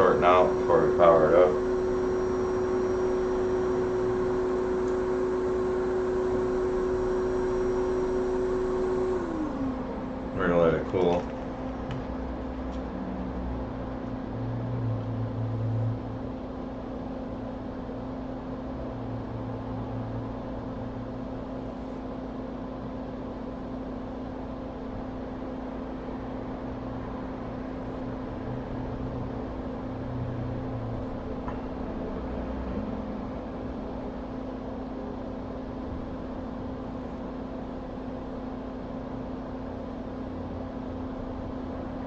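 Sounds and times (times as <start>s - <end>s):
hot air blower whirring: 0.0s - 14.4s, 20.4s - 42.0s
electrical equipment humming: 0.0s - 42.0s
fan running: 0.0s - 42.0s.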